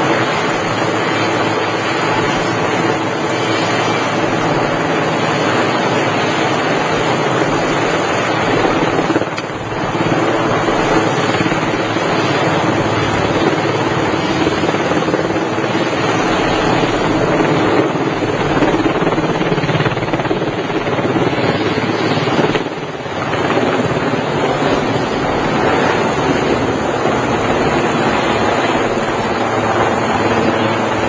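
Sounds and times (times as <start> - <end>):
helicopter rotor noise: 0.0 - 31.0.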